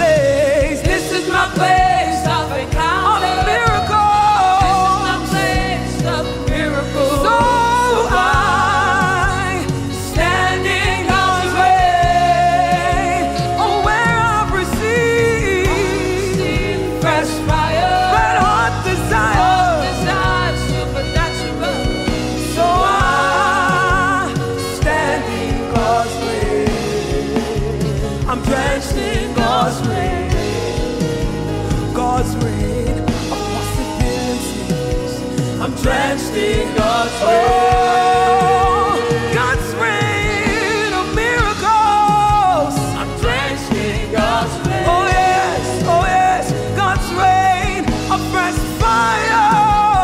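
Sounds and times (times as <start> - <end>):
band with drums: 0.0 - 50.0
instrumental backing with beat: 0.0 - 50.0
woman singing with vibrato: 0.0 - 50.0.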